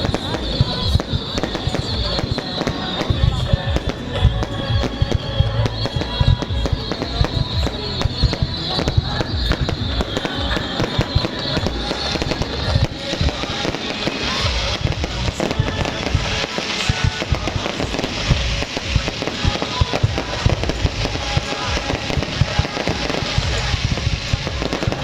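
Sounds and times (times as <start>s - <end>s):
fireworks booming: 0.0s - 25.0s
fireworks crackling: 0.0s - 25.0s.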